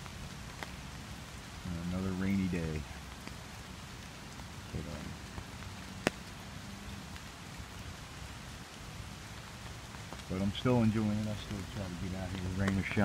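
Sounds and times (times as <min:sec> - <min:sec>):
rain on an umbrella: 0:00.0 - 0:13.0
rain pattering on water: 0:00.0 - 0:13.0.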